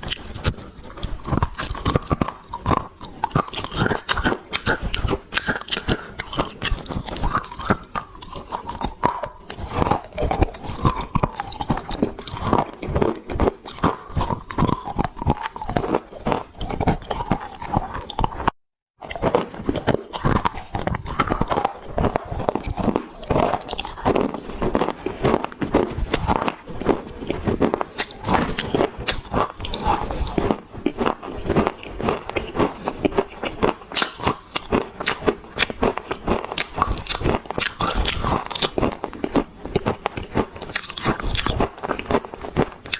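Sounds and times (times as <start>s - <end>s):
dry clay being chewed: 0.0s - 42.9s.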